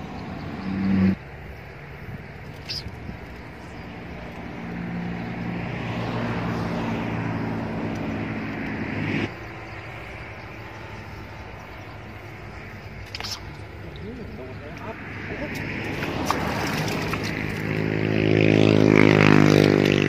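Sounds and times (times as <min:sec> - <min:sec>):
vehicle engine passing: 0:00.0 - 0:01.6, 0:03.0 - 0:20.0
outdoor background noise: 0:00.0 - 0:20.0.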